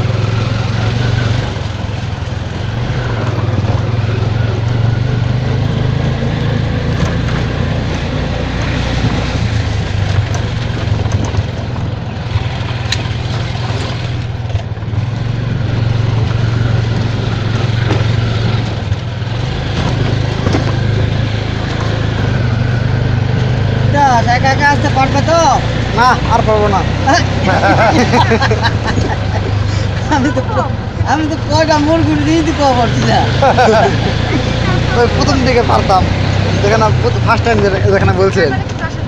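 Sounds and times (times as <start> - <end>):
road noise: 0.0 - 39.0
small engine running: 0.0 - 39.0.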